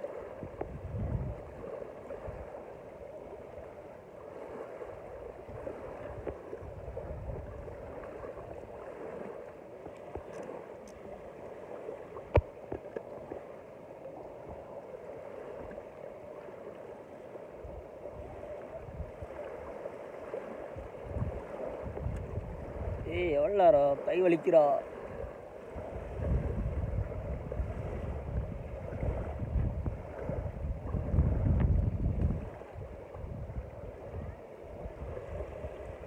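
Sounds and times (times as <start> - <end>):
lake water lapping: 0.0 - 36.0.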